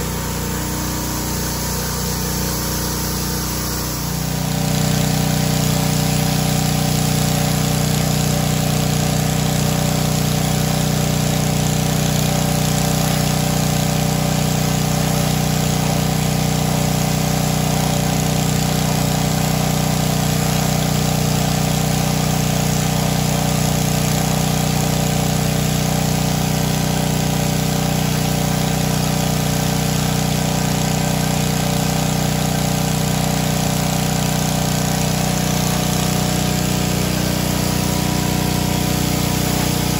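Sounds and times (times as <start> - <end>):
pressure washer motor hum: 0.0 - 39.9.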